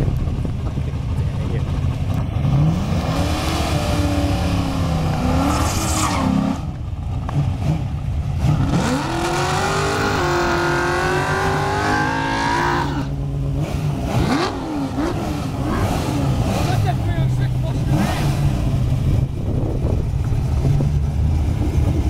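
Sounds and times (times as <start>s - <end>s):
racing engines revving: 1.5s - 22.0s.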